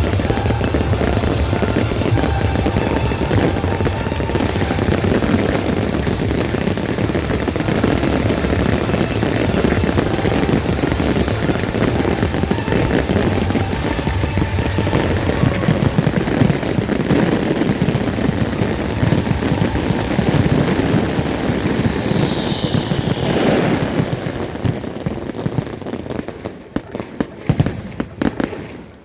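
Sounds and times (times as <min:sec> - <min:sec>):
firework falling whistle: 0:00.0 - 0:25.6
fireworks crackling and popping: 0:00.0 - 0:29.0.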